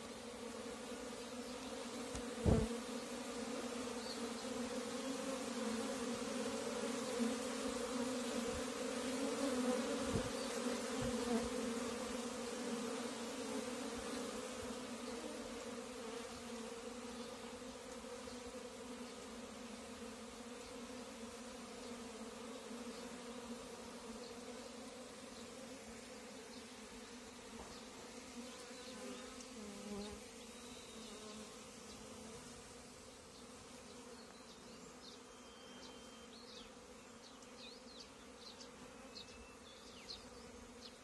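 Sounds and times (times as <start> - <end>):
bees buzzing: 0.0 - 41.0.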